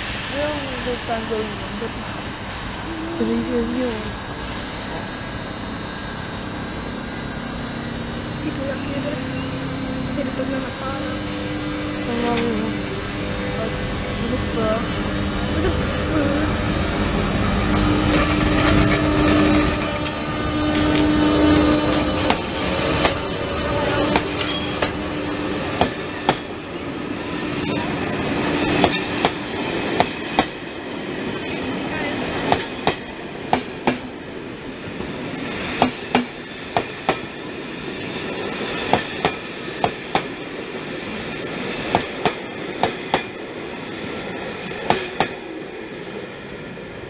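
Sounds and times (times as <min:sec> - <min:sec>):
train rolling rumble: 0:00.0 - 0:47.0.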